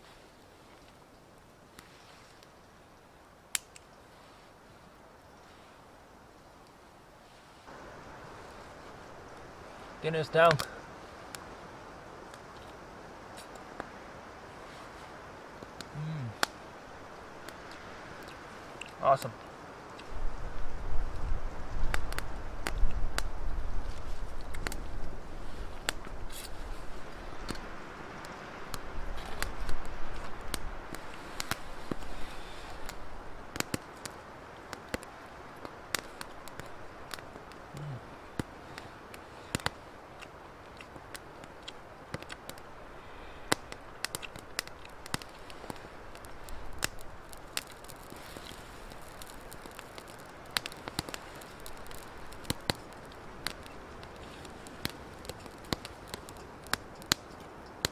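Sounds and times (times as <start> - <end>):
firewood crackling and popping: 0.0 - 57.9
low hiss: 0.0 - 57.9.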